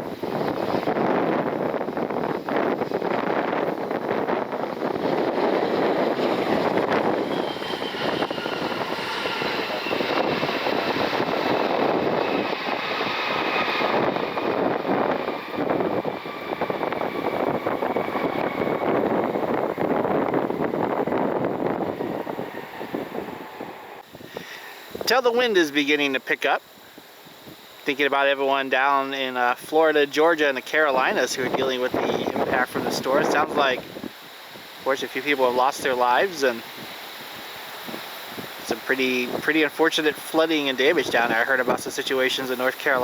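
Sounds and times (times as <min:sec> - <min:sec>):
wind buffeting microphone: 0:00.0 - 0:25.6, 0:30.3 - 0:43.0
jet engines passing: 0:00.0 - 0:43.0.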